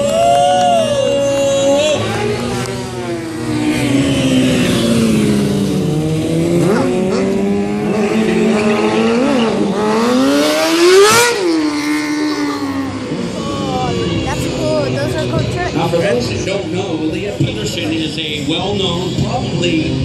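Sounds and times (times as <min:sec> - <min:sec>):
motorcycle engine revving: 0:00.8 - 0:20.0.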